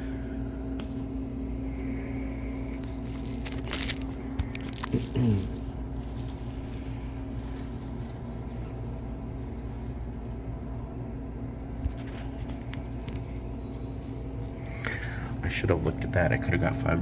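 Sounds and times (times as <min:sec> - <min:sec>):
vending machine humming: 0:00.0 - 0:17.0.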